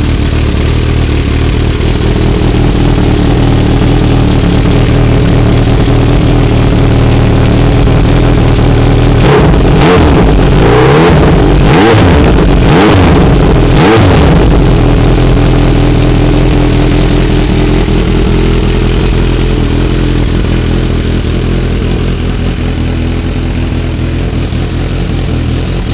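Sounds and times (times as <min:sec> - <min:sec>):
motorcycle engine revving and idling: 0:00.0 - 0:25.9.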